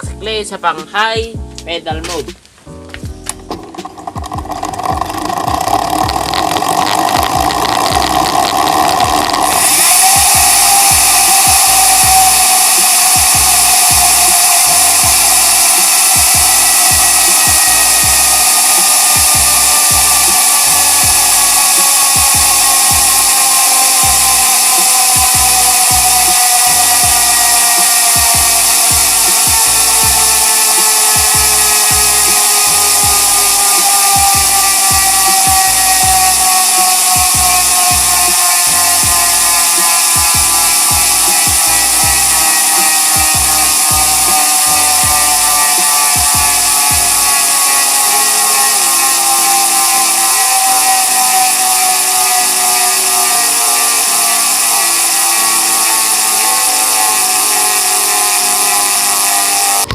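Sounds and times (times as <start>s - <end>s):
bicycle freehub ratchet buzzing: 3.0s - 59.9s.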